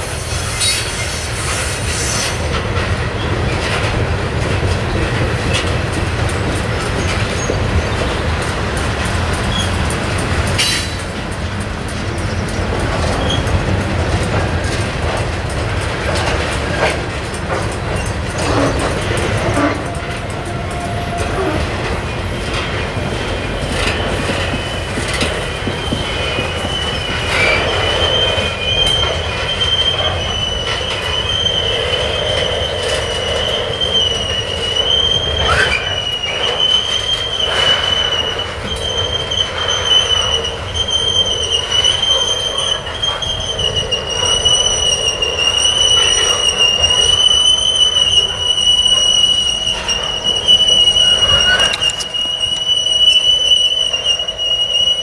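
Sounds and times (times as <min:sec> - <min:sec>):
sharp clanks from train cars: 0:00.0 - 0:55.0
train wheels squealing on rails: 0:00.0 - 0:55.0.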